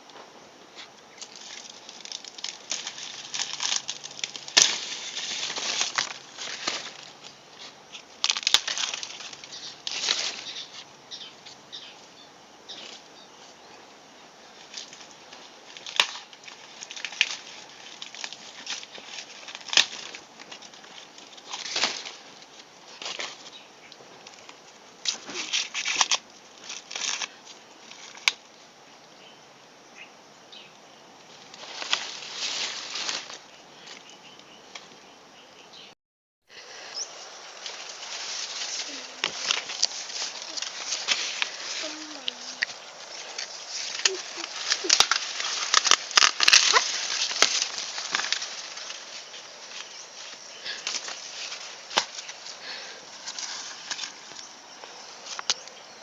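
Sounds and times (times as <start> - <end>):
corn ear crackling and crunching: 0.8 - 12.0, 14.4 - 28.6, 31.2 - 35.0, 36.8 - 56.0.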